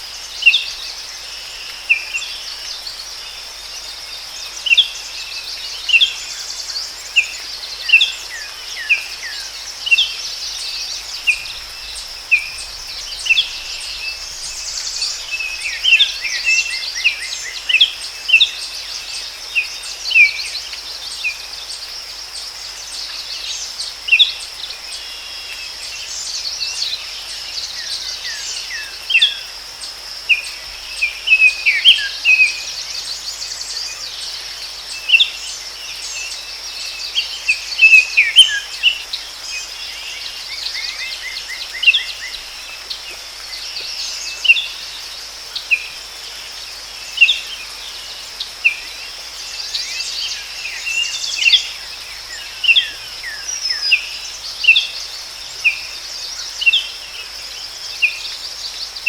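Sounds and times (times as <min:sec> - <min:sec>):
forest birds chirping: 0:00.0 - 0:59.0
high insect drone: 0:00.0 - 0:59.0.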